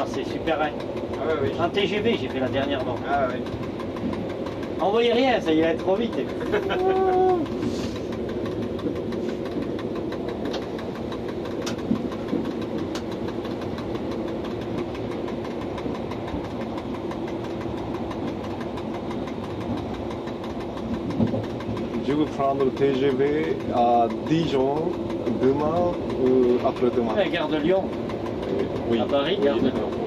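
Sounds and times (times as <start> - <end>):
electric train running rumble: 0.0 - 30.0.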